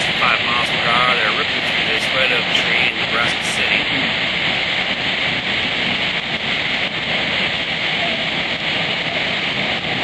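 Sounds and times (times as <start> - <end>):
wind rushing through tree: 0.0 - 10.0.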